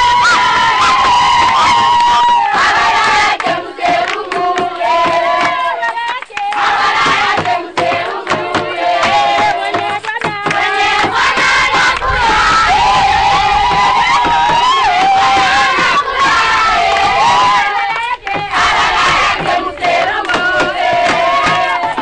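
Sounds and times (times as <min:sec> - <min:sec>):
crowd cheering and shouting: 0:00.0 - 0:07.9, 0:10.5 - 0:22.0
hand-clapping: 0:00.2 - 0:12.7, 0:13.3 - 0:22.0.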